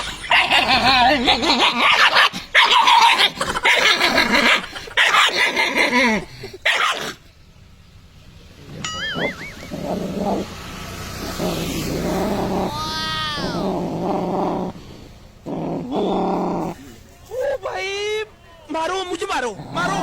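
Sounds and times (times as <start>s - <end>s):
dog barking and growling: 0.0s - 7.3s, 8.6s - 17.0s, 19.3s - 20.0s.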